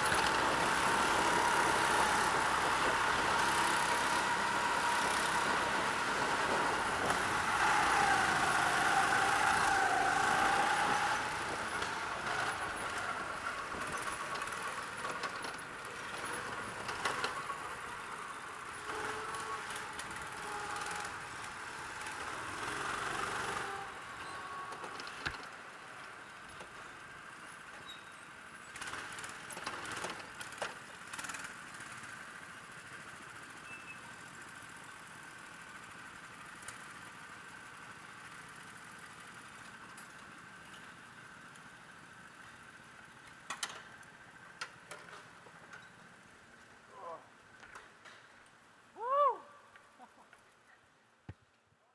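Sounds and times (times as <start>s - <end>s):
go-kart engine buzzing: 0.0s - 27.7s, 28.4s - 45.2s
other go-kart engines: 0.0s - 50.5s.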